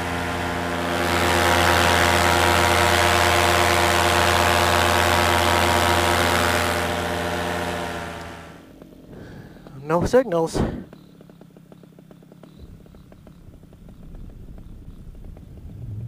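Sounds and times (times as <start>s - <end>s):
paramotor engine and propeller: 0.0s - 16.0s.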